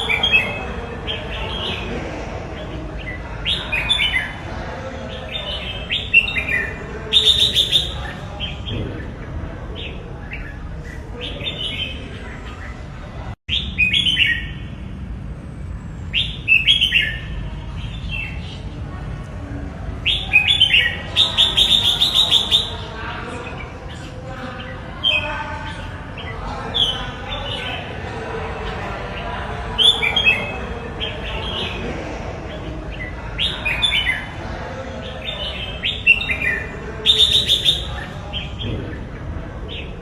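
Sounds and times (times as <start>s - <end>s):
low background noise: 0.0s - 40.0s.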